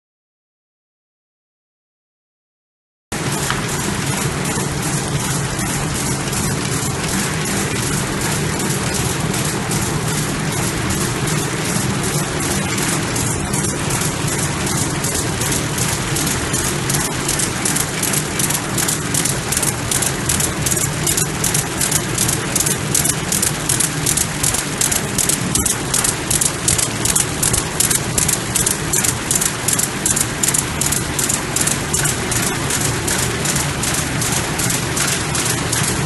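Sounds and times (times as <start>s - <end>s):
machine clattering: 3.2s - 36.0s
machine low hum: 3.2s - 36.0s.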